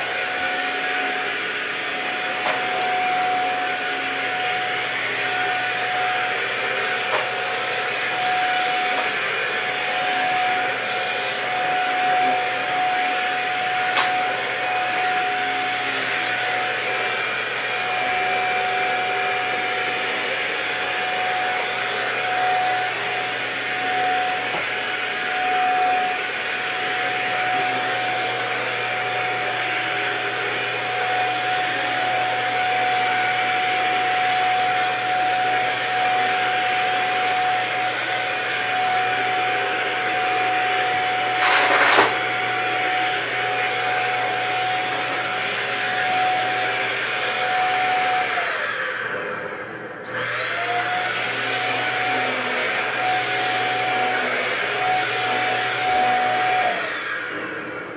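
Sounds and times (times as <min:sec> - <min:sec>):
vacuum cleaner motor whine: 0:00.0 - 0:57.9.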